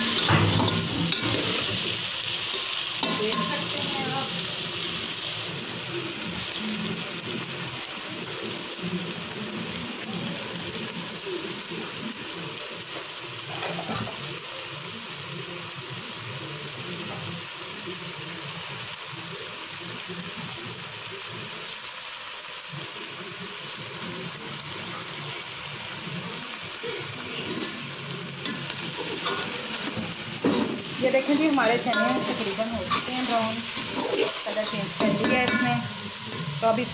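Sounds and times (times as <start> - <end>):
chickpeas sizzling in oil: 0.0 - 36.9.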